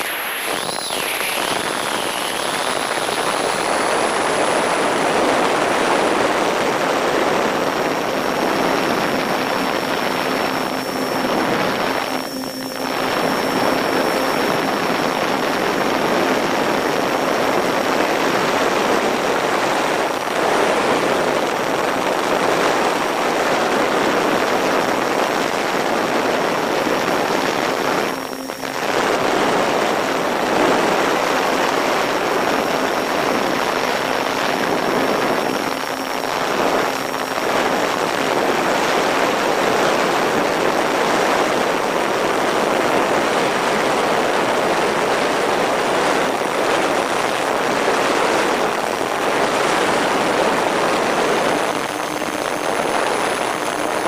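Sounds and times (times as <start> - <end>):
faint electric motor whine: 0.0 - 54.0.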